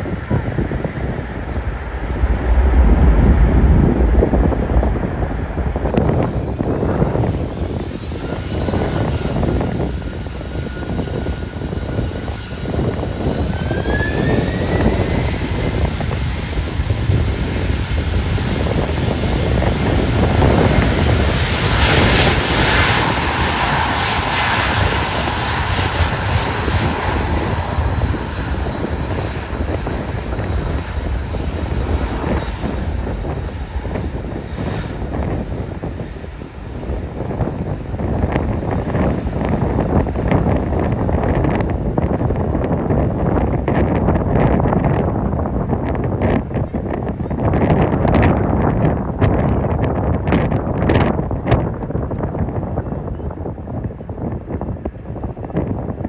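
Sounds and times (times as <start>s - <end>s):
jet engines whining: 0.0s - 16.6s, 17.8s - 49.3s
wind buffeting microphone: 0.0s - 56.0s.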